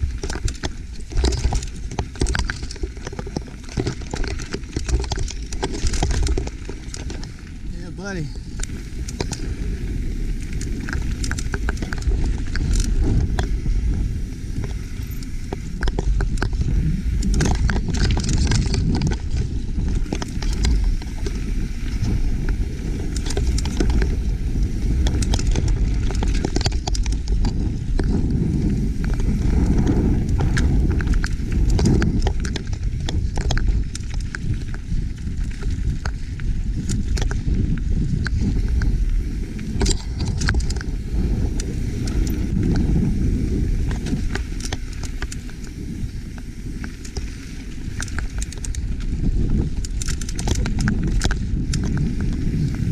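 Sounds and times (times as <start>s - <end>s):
bike clattering over rocks: 0.0s - 43.0s, 46.4s - 52.9s
bike tyres rumbling over stones: 0.0s - 52.9s
wind rumble on microphone: 0.0s - 52.9s.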